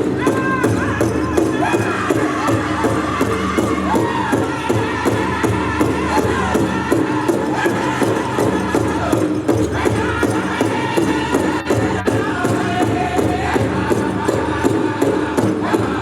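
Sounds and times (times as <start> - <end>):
big drum beating: 0.0 - 16.0
group singing together: 0.3 - 16.0.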